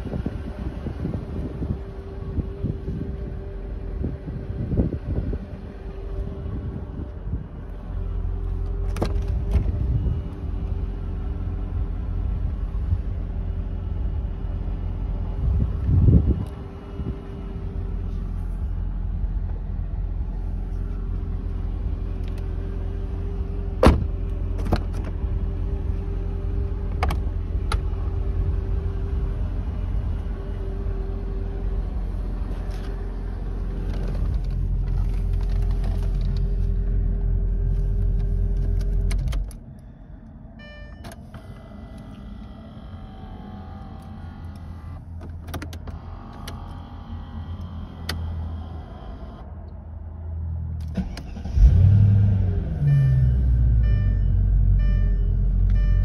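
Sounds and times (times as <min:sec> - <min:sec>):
car engine idling: 0:00.0 - 0:51.8.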